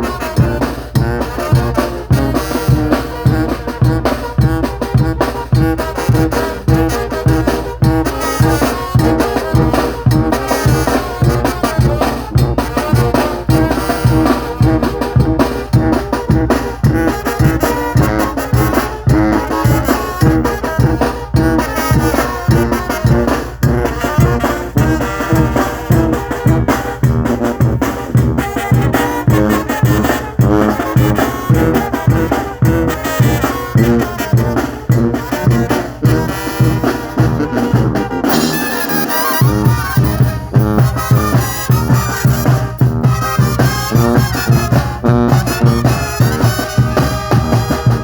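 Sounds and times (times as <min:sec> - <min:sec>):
brass band playing: 0:00.0 - 0:48.0.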